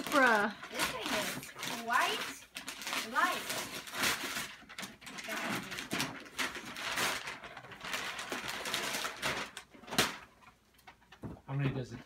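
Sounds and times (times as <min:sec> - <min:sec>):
wrapping paper rustling and tearing: 0:00.0 - 0:10.5.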